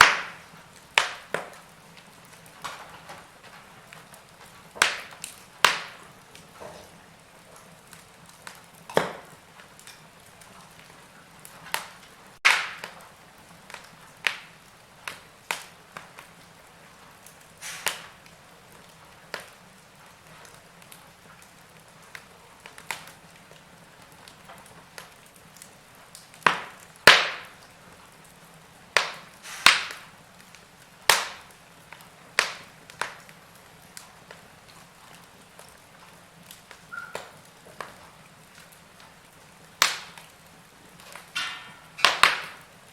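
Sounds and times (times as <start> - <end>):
faint steady hiss: 0.0 - 42.9
wood fire crackling: 0.0 - 42.9.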